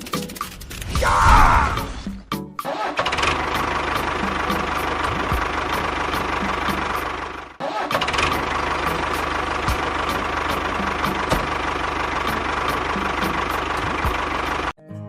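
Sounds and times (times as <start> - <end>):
engine running: 0.0 - 2.3, 2.9 - 14.8.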